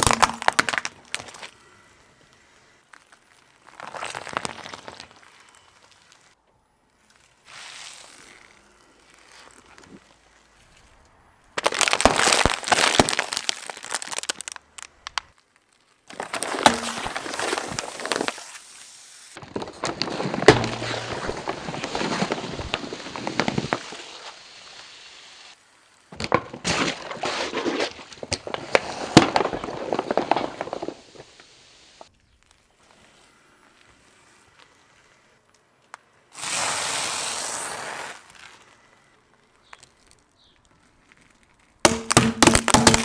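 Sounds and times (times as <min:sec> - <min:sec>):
objects crunching under tyres: 0:00.0 - 0:43.0.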